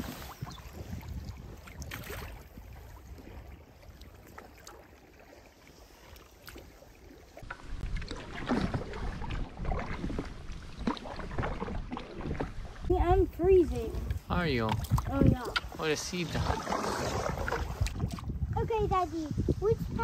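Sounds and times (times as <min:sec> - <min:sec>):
wind rumble on microphone: 0:00.0 - 0:04.5, 0:07.4 - 0:20.0
paddle strokes: 0:00.0 - 0:20.0
water splashing against hull: 0:00.0 - 0:20.0.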